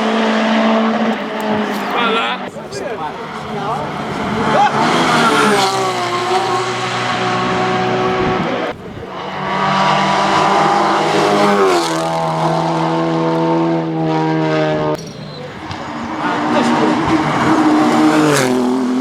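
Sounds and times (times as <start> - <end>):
race car engines at high revs: 0.0 - 19.0.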